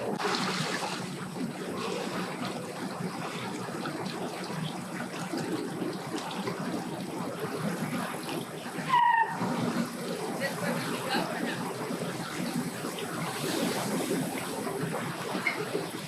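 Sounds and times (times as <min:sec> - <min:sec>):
boat engines humming: 0:00.0 - 0:16.0
water noise: 0:00.0 - 0:16.0.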